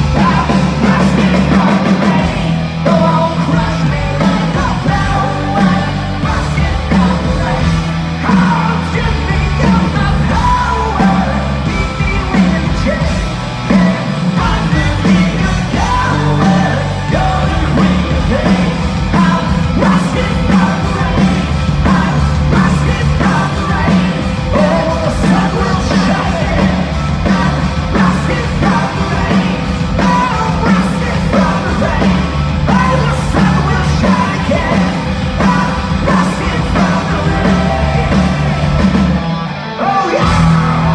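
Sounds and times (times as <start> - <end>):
person yelling singing: 0.0 - 38.8, 39.6 - 40.9
punk rock band playing: 0.0 - 40.9.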